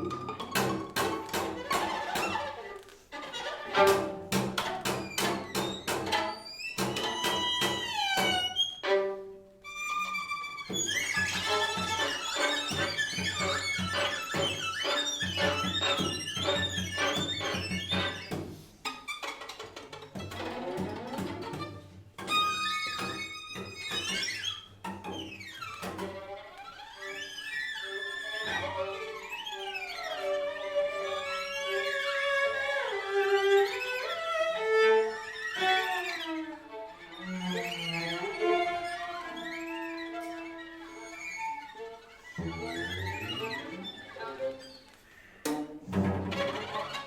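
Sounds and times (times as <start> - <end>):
string quartet playing: 0.0 - 47.0.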